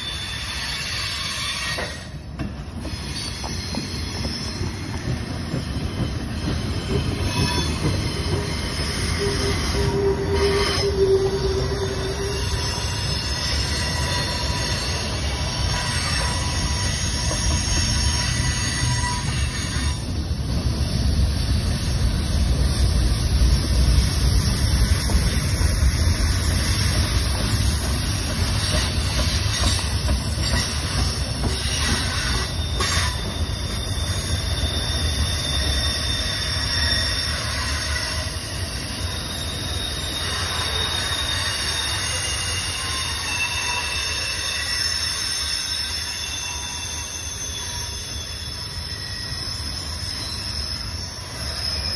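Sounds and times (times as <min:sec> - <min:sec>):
high wheel squeals: 0:00.0 - 0:20.2, 0:20.8 - 0:51.9
steel wheels rumbling on rail: 0:00.0 - 0:51.9.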